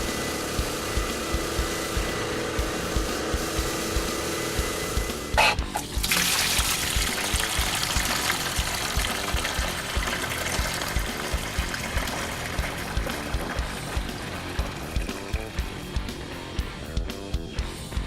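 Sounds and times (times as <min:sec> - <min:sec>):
background music with beat: 0:00.0 - 0:18.0.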